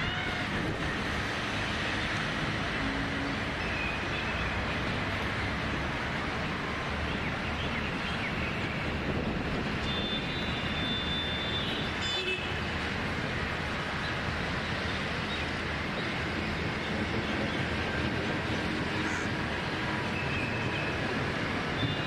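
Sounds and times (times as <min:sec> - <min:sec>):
distant road traffic rushing: 0:00.0 - 0:22.0.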